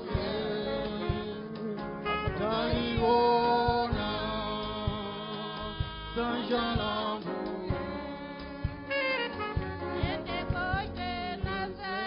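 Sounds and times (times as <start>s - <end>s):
beat thumps: 0.0s - 12.0s
group singing gospel song: 0.0s - 12.0s.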